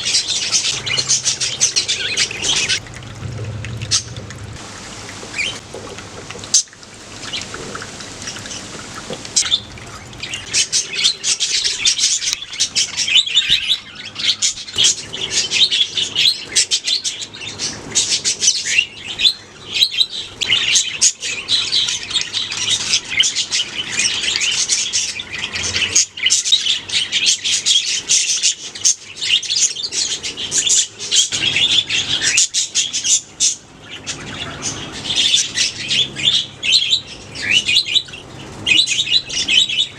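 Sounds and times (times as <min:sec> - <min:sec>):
budgerigars chirping and chattering: 0:00.0 - 0:02.8, 0:09.4 - 0:39.9.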